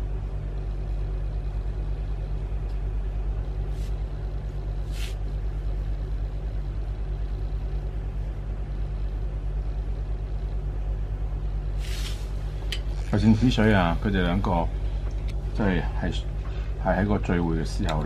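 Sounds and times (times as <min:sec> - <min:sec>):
low mechanical hum with throb: 0:00.0 - 0:18.0.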